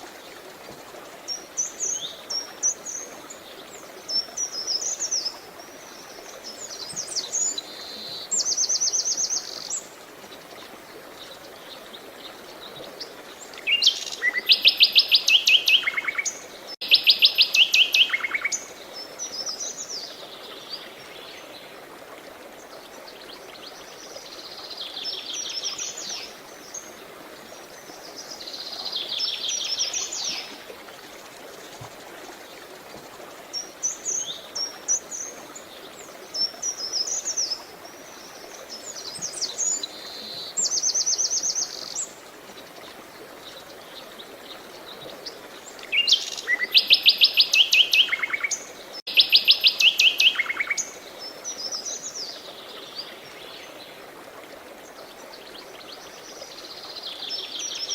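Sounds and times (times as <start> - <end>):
running water hiss: 0.0 - 57.9.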